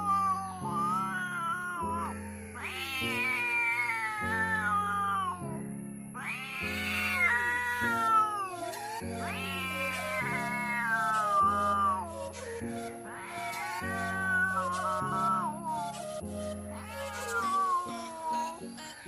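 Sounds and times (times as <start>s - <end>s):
cats yowling in a fight: 0.0s - 5.4s, 6.2s - 19.0s
background music: 0.0s - 19.0s.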